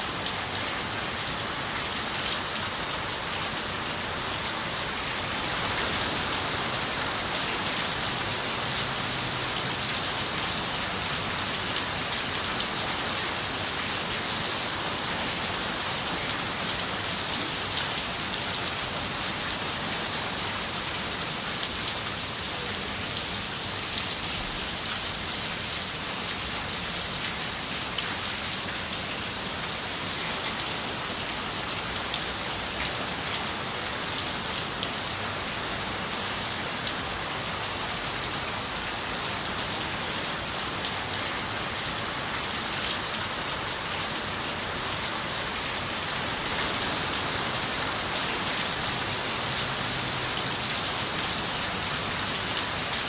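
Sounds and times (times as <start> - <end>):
rain on a window: 4.9 - 53.0.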